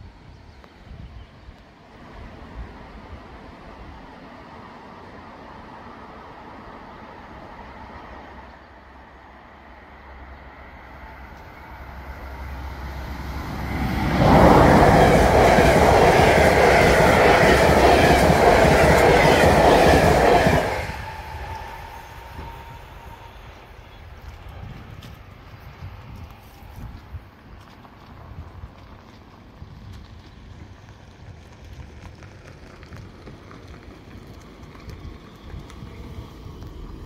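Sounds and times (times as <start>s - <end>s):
passenger train passing: 0.0s - 37.0s.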